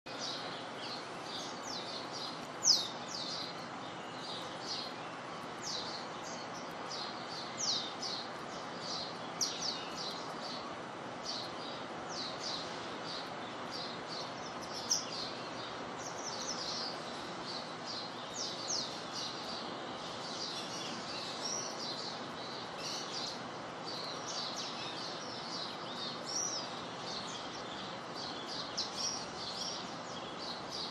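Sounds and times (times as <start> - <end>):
birds chirping: 0.1 - 30.9
light rain hiss: 0.1 - 30.9.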